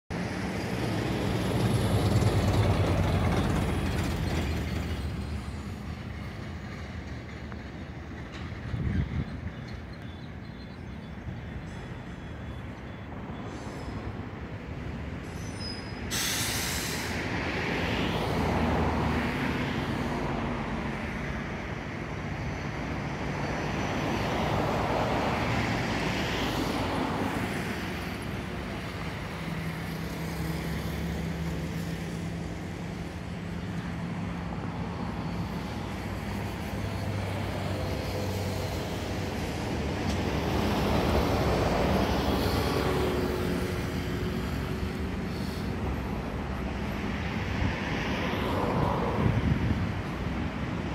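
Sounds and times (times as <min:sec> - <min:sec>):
low traffic rumble: 0:00.1 - 0:50.9
vehicles passing: 0:00.1 - 0:50.9.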